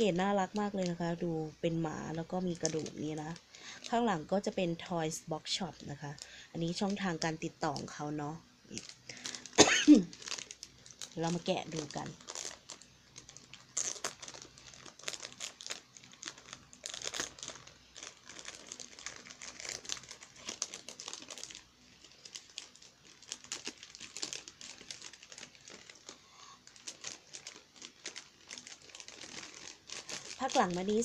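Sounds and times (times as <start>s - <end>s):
plastic package crinkling: 0.0s - 4.6s, 5.6s - 31.0s.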